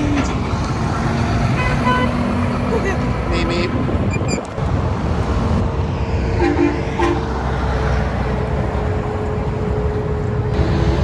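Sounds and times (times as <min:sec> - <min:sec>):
road traffic roar: 0:00.0 - 0:11.0.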